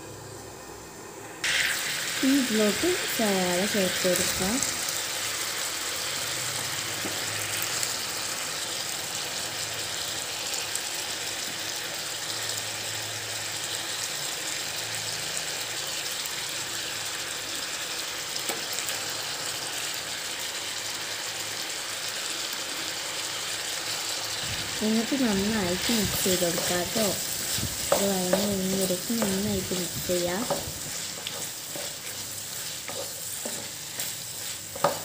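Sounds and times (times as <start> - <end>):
onions sizzling in a frying pan: 0.0 - 35.0.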